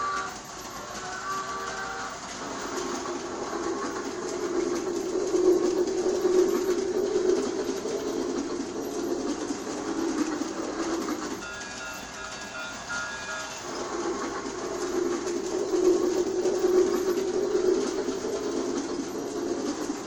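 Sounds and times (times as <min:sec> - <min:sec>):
toy train whirring on track: 0:00.0 - 0:20.0.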